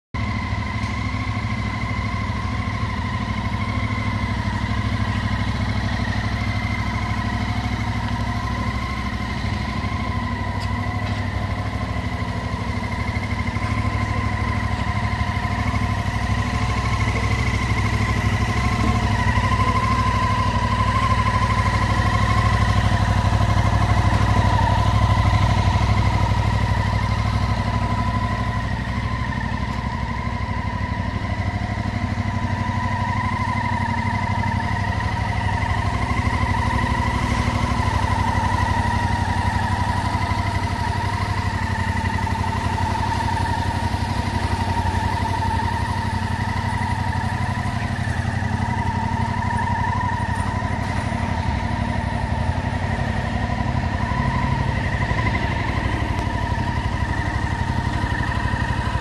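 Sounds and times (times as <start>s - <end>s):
motorcycle engine idling: 0.1s - 59.0s.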